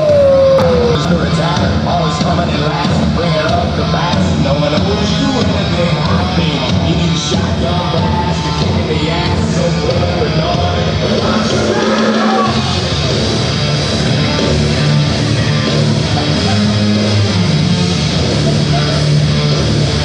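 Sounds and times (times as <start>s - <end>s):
loud rock music with singing: 0.0s - 20.0s.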